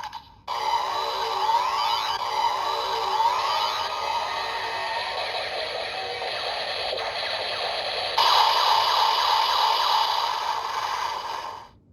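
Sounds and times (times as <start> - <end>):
toy electronic sound effects: 0.0 - 11.7.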